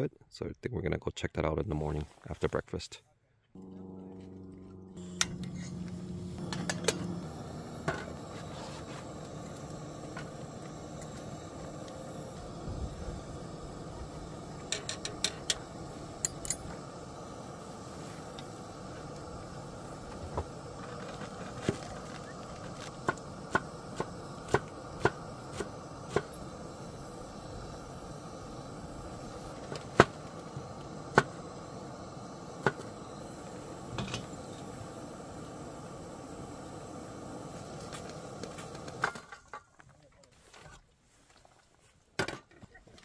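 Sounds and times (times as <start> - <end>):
steady hiss: 5.0 - 39.4.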